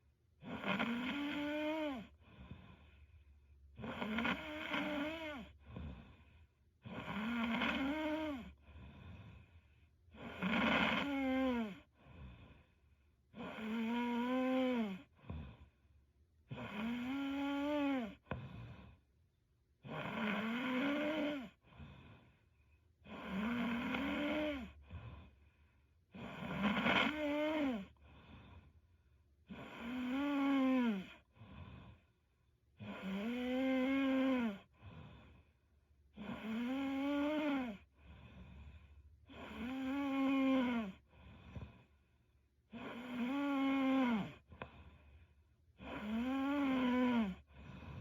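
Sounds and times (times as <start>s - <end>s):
woman snoring: 0.4s - 3.0s, 3.7s - 9.5s, 10.1s - 15.8s, 16.4s - 19.0s, 19.8s - 22.4s, 23.0s - 25.4s, 26.1s - 28.7s, 29.4s - 32.2s, 32.8s - 42.0s, 42.7s - 48.0s.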